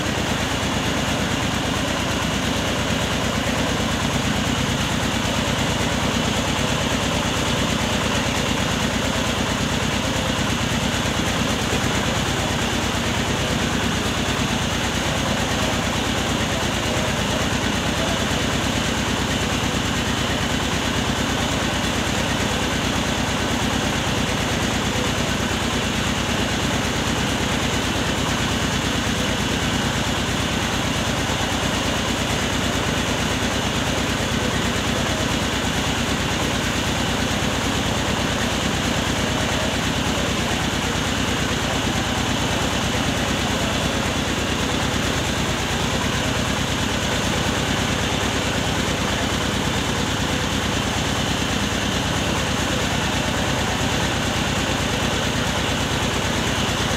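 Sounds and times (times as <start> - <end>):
rice mill machinery droning: 0.0 - 56.9.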